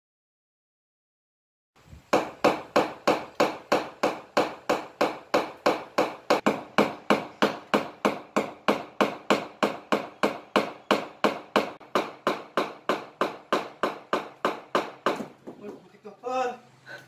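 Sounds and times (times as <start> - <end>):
hammer striking a wall: 2.1 - 15.9.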